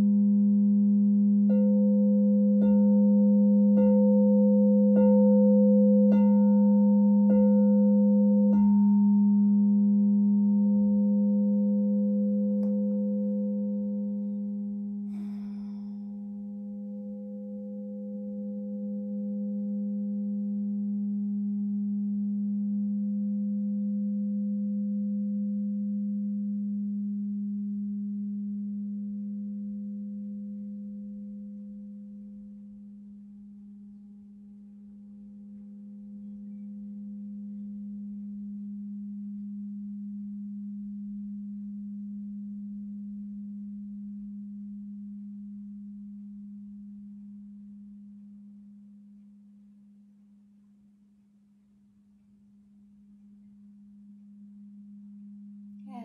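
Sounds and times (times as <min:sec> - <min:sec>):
singing bowl tone: 0:00.0 - 0:56.0.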